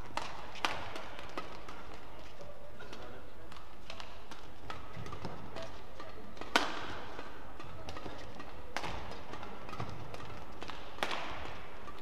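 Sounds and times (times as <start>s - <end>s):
rackets hitting shuttlecock: 0.0s - 12.0s.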